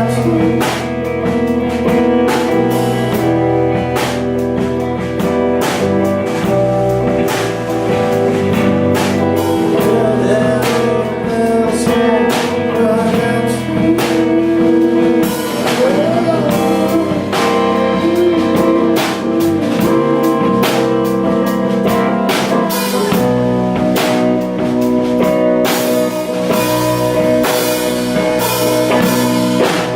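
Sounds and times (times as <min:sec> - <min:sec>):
person singing: 0:00.0 - 0:04.0, 0:04.6 - 0:29.9
drum kit hits: 0:00.0 - 0:29.9
guitars: 0:00.0 - 0:29.9.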